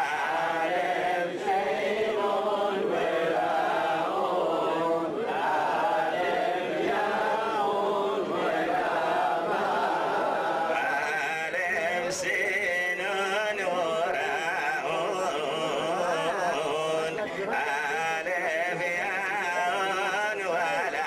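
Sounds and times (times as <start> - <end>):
men chanting together: 0.0 - 21.0.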